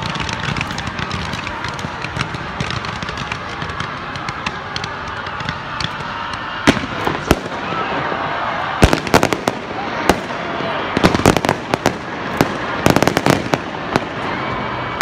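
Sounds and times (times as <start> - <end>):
fountain fireworks crackling hiss: 0.0 - 15.0.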